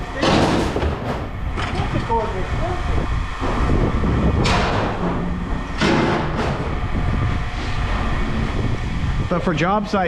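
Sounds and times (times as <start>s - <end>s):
low machine rumble: 0.0s - 10.0s.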